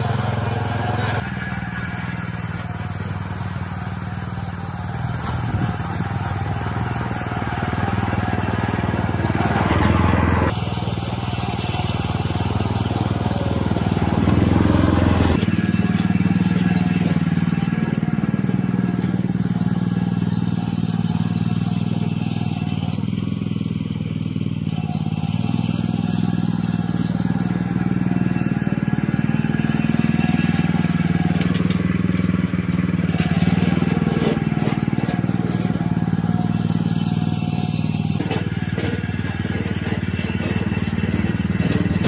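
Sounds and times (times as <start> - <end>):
small petrol engine running: 0.0 - 42.0.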